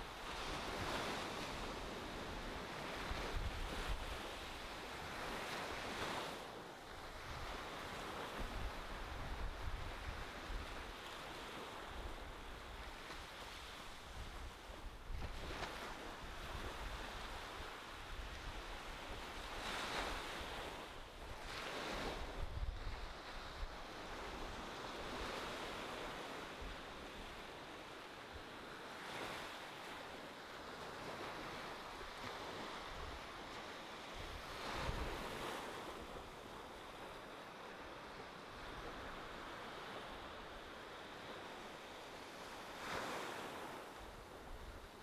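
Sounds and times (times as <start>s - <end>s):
ocean surf on sandy beach: 0.0s - 45.0s.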